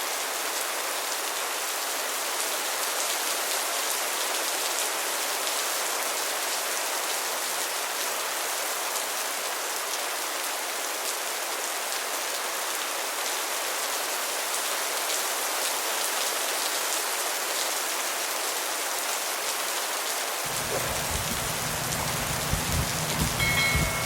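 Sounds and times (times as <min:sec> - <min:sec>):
steady rainfall: 0:00.0 - 0:24.0.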